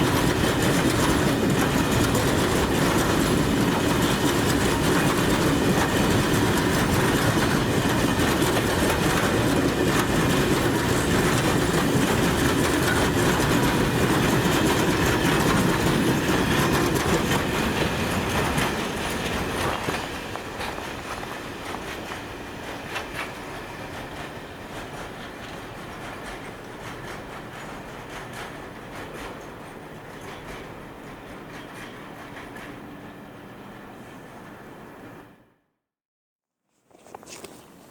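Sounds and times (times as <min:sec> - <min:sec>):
train wheels rolling on rails: 0:00.0 - 0:35.3.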